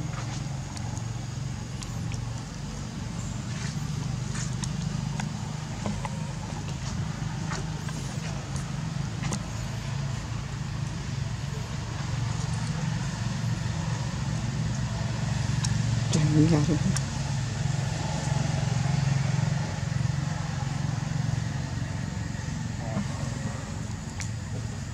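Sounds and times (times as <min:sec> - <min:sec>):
low engine hum: 0:00.0 - 0:24.9.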